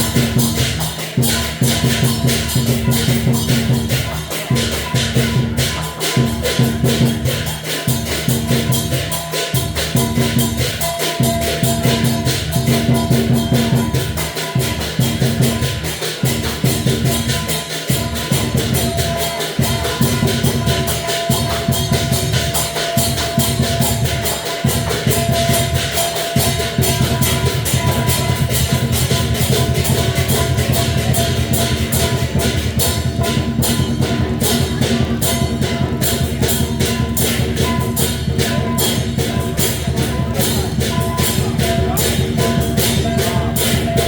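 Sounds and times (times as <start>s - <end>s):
cymbal clashes: 0.0s - 44.0s
drum beaten in fast strokes: 0.0s - 44.0s.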